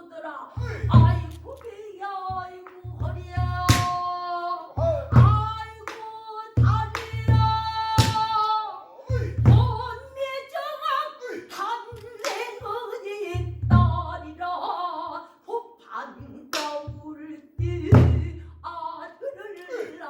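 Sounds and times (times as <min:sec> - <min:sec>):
person singing long wavering phrases: 0:00.0 - 0:20.0.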